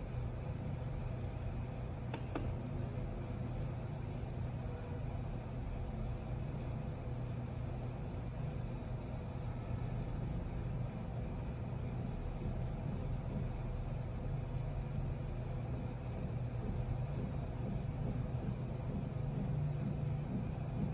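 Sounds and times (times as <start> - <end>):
low-pitched hum with hiss: 0.0 - 20.9.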